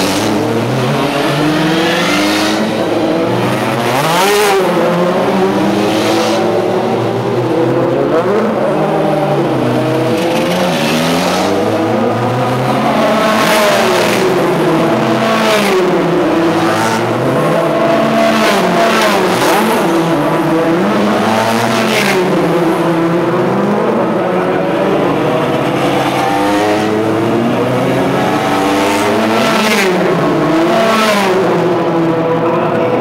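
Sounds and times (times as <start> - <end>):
race car engines passing: 0.0 - 33.0.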